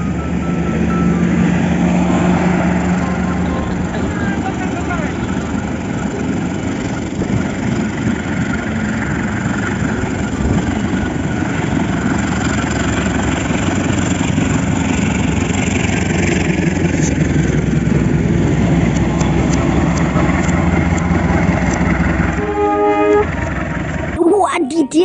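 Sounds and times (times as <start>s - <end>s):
train wheels rumbling on rails: 0.0s - 24.2s
locomotive engine drone: 0.0s - 25.0s.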